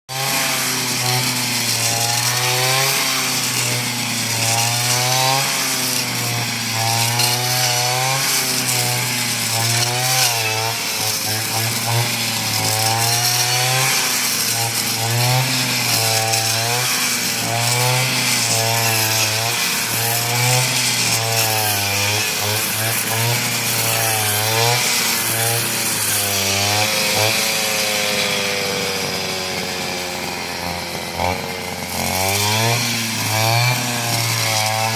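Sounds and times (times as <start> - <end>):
engine-driven cutter cutting stalks: 0.1 - 34.9.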